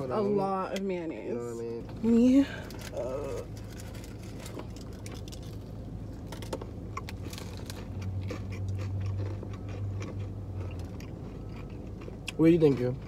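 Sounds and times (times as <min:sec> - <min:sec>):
steady low hum: 0:00.0 - 0:13.0
people crunching and chewing: 0:02.4 - 0:13.0.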